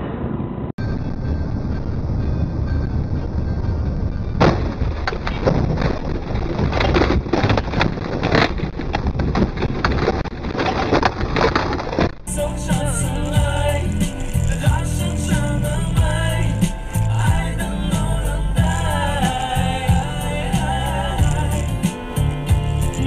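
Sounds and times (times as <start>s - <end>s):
vehicle noise: 0.0s - 23.0s.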